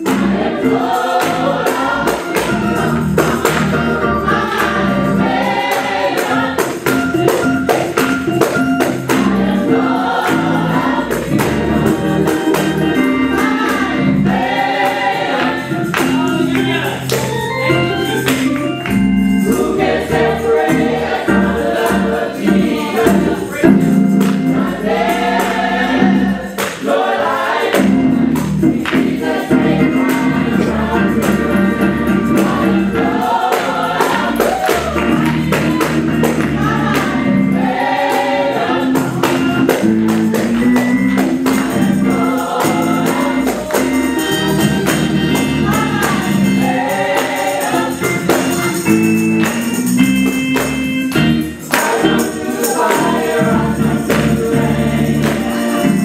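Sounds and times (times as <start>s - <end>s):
group of singers: 0.0s - 50.1s, 51.0s - 56.0s
low instrumental accompaniment: 0.0s - 56.0s
tambourine: 0.0s - 56.0s.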